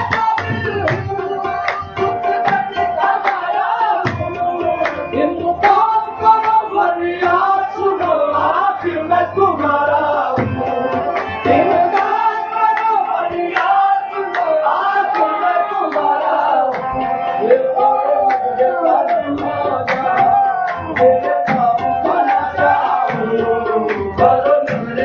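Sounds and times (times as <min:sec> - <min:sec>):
men singing: 0:00.0 - 0:25.0
tabla beat: 0:00.0 - 0:25.0.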